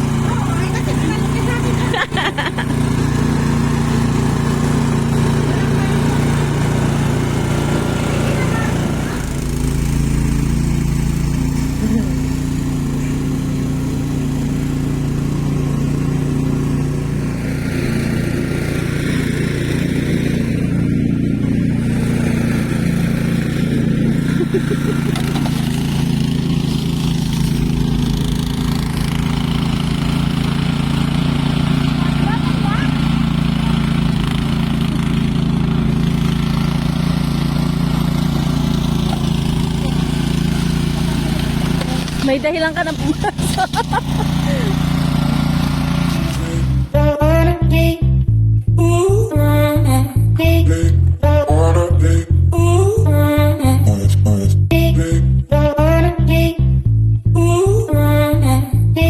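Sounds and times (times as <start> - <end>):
car engine humming: 0.0 - 47.9.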